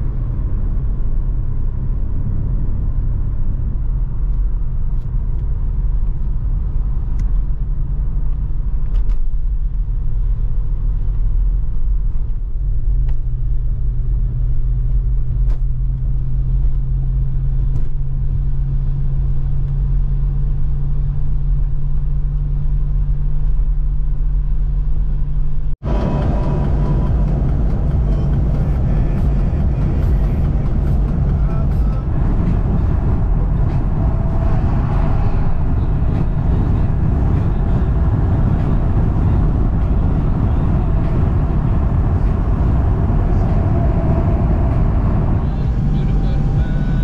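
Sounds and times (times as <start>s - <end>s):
engine drone: 0.0s - 47.0s
road rumble: 0.0s - 47.0s.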